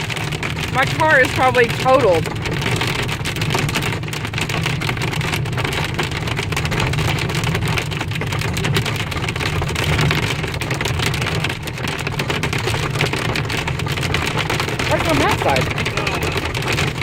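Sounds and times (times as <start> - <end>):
car driving rumble: 0.0 - 17.0
hail clattering on car body: 0.0 - 17.0.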